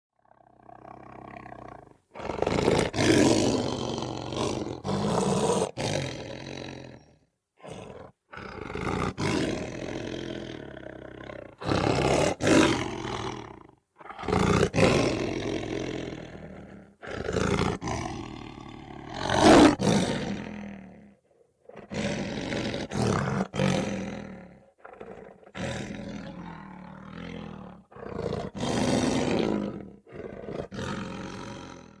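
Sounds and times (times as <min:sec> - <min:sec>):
lion roaring: 0:00.3 - 0:32.0.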